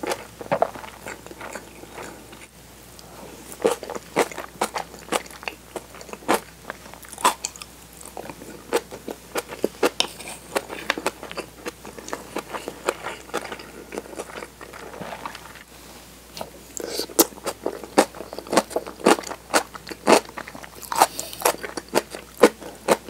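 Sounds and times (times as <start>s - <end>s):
person chewing crunchy food: 0.0s - 15.7s, 16.7s - 23.0s.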